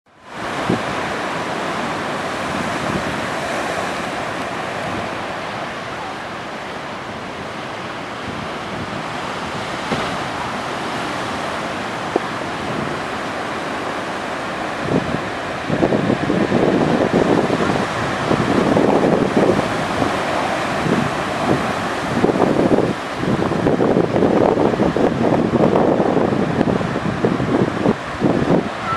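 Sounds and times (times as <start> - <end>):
waves breaking: 0.1 - 28.9.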